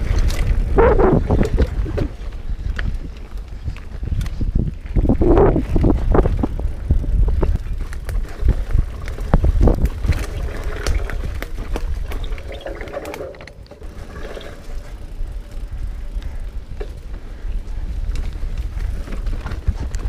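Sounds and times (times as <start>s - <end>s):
bike rattling over bumps: 0.0s - 20.0s
bike tyres rumbling on dirt trail: 0.0s - 20.0s.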